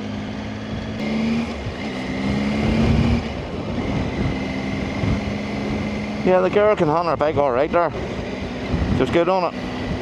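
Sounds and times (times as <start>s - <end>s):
motorcycle engine revving: 0.0s - 10.0s
wind and road noise: 0.0s - 10.0s.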